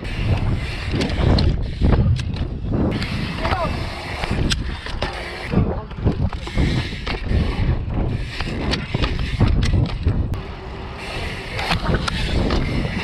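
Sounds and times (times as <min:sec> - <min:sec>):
bike rattling over bumps: 0:00.0 - 0:13.0
tyres rumbling on trail: 0:00.0 - 0:13.0
wind on microphone: 0:00.0 - 0:13.0.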